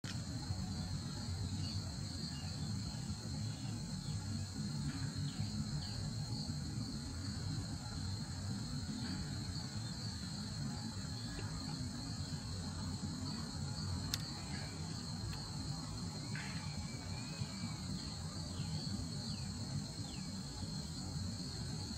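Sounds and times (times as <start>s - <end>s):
insect chorus trilling: 0.1s - 21.9s.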